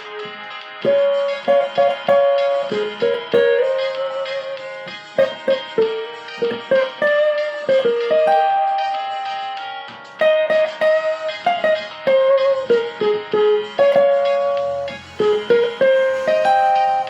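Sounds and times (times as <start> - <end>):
cavaquinho plucked melody: 0.0 - 17.0.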